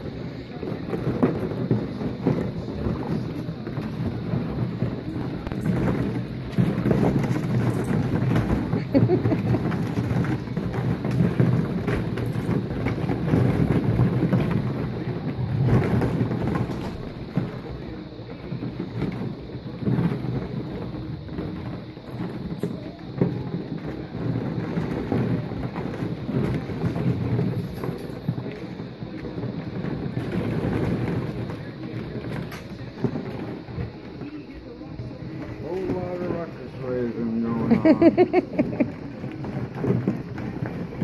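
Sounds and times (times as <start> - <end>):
plastic balls clattering: 0.0 - 41.0.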